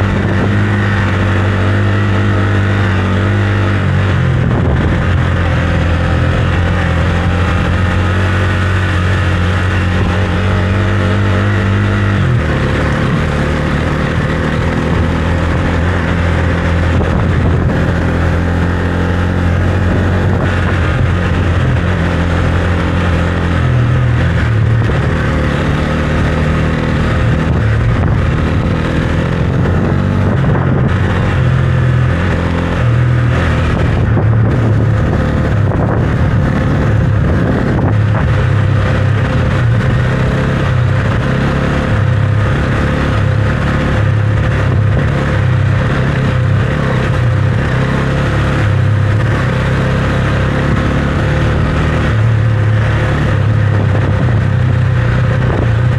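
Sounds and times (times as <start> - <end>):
motorcycle engine running: 0.0 - 55.9
steady rushing noise: 0.0 - 55.9.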